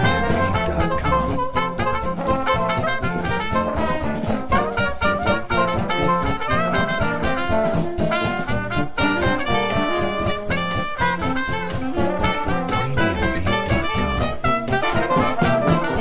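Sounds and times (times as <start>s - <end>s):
brass jazz band music: 0.0s - 16.0s.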